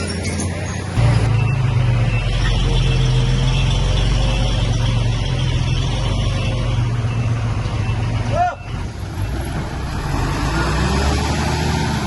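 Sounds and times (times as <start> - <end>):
bulldozer diesel engine drone: 0.0 - 12.0.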